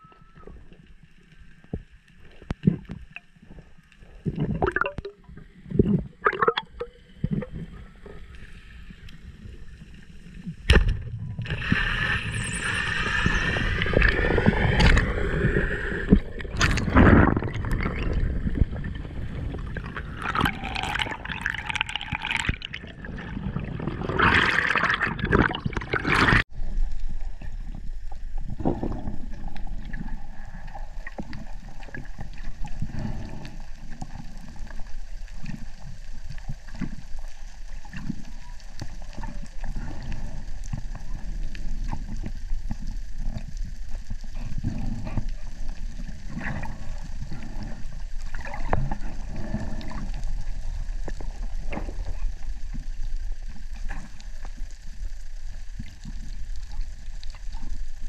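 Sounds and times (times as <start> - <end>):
muffled underwater water rushing: 0.0 - 58.0.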